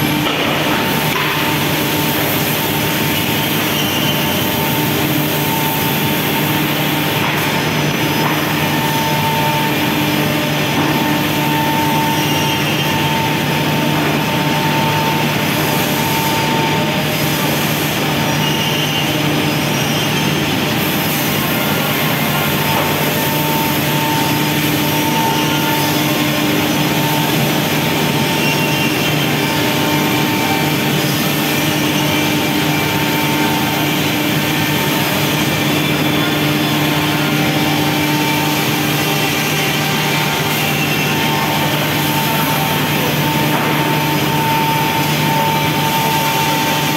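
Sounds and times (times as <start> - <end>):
factory machinery whirring: 0.0 - 46.9
high steady machine tones: 0.0 - 46.9.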